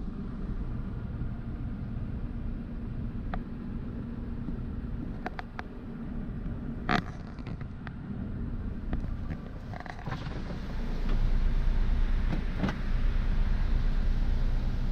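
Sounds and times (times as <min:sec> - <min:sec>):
diesel engine idling: 0:00.0 - 0:07.0, 0:07.7 - 0:14.9.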